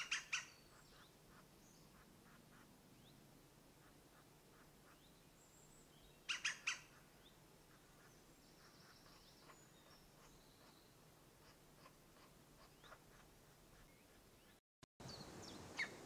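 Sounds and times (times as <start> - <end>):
woodland bird chirps: 0.0 - 3.2, 3.8 - 16.0.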